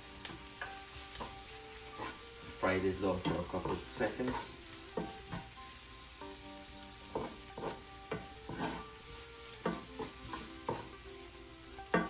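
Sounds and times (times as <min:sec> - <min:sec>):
onion and garlic sizzling in oil: 0:00.0 - 0:12.0
spatula scraping a pan: 0:00.5 - 0:05.8, 0:07.0 - 0:12.0.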